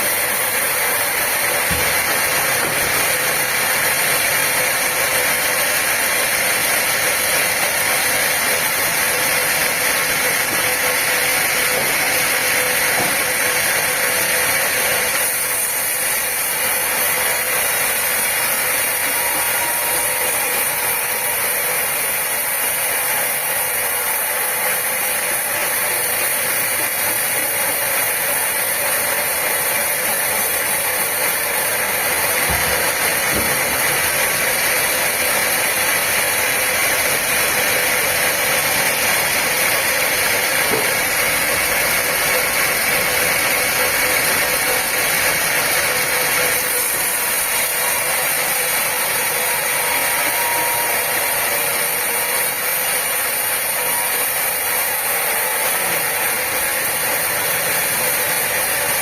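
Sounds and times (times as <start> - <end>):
sawmill machinery hiss and hum: 0.0 - 59.0.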